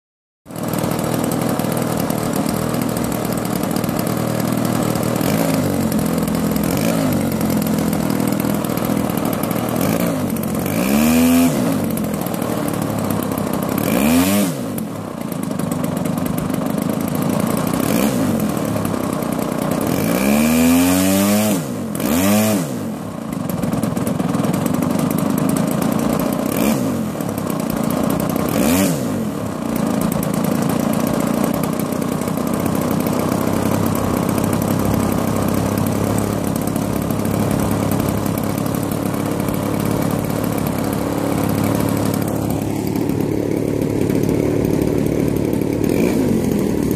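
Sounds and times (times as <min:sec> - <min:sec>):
model airplane engine revving: 0:00.5 - 0:46.9.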